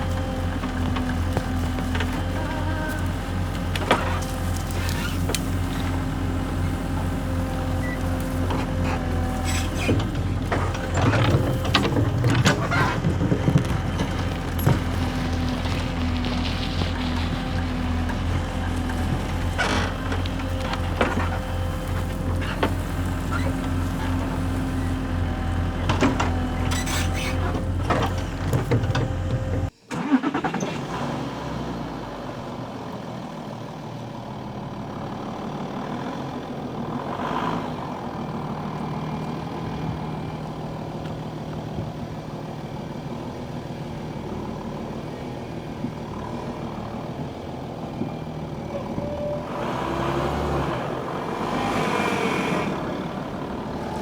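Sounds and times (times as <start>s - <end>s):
vehicle engine running: 0.0s - 29.8s, 31.2s - 54.0s
quieter engine hum: 0.0s - 30.1s, 31.2s - 54.0s.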